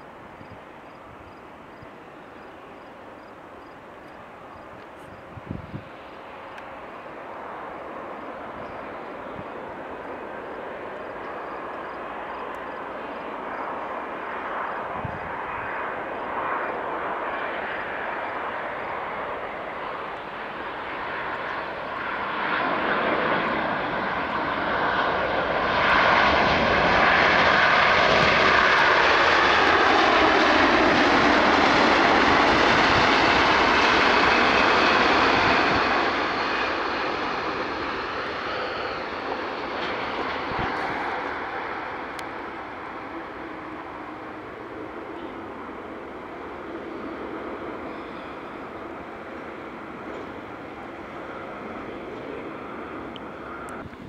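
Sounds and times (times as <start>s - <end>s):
jet engines of landing plane: 0.0s - 54.0s.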